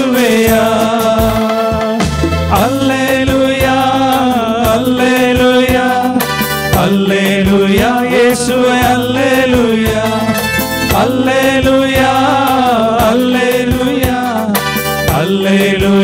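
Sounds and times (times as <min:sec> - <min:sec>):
keyboard hymn music: 0:00.0 - 0:16.0.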